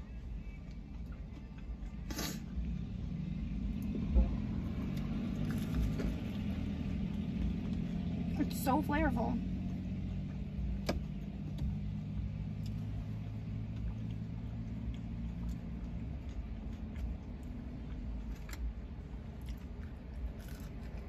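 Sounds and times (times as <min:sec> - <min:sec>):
chewing and biting food: 0:00.1 - 0:08.3, 0:09.7 - 0:21.0
car cabin low hum: 0:02.6 - 0:21.0.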